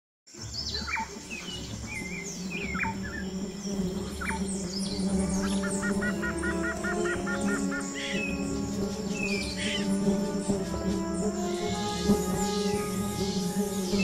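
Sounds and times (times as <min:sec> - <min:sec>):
birds chirping: 0:00.3 - 0:14.0
honeybees buzzing: 0:01.1 - 0:14.0.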